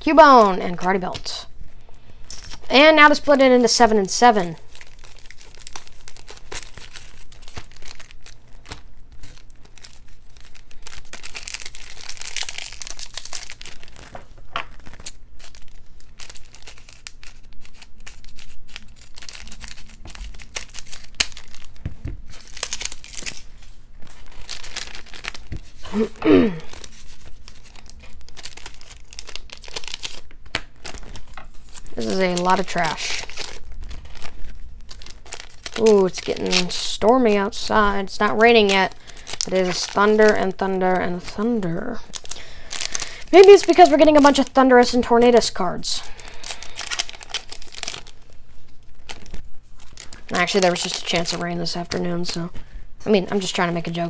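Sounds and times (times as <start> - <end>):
foil wrappers tearing and crinkling: 2.1 - 52.7.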